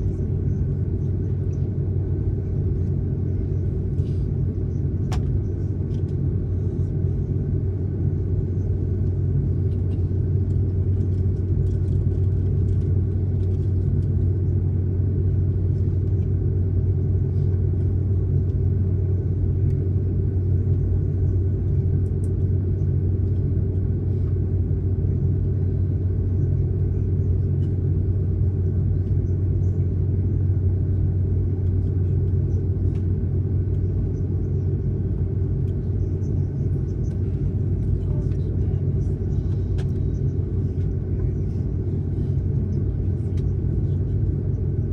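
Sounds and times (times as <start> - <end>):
jet engine and airflow rumble: 0.0 - 44.9.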